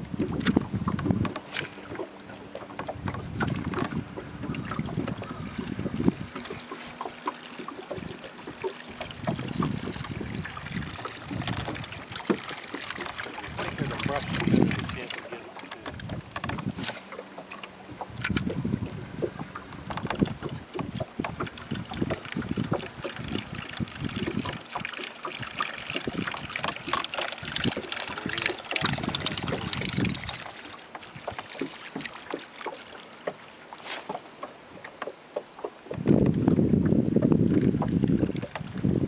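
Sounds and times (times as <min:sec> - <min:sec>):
wind rumbling on microphone: 0:00.0 - 0:17.2, 0:17.8 - 0:32.8, 0:35.9 - 0:39.0
water sounds: 0:00.0 - 0:39.0.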